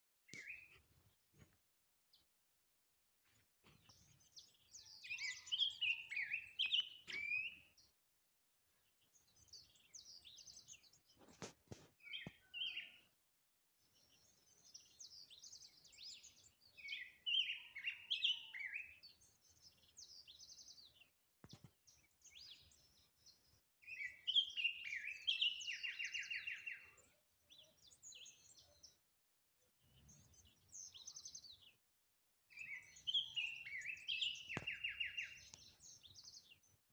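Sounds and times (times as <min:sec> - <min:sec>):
bird singing warbled phrases: 0:00.3 - 0:00.8, 0:03.7 - 0:08.0, 0:08.7 - 0:13.2, 0:13.8 - 0:29.0, 0:29.6 - 0:31.8, 0:32.5 - 0:36.9.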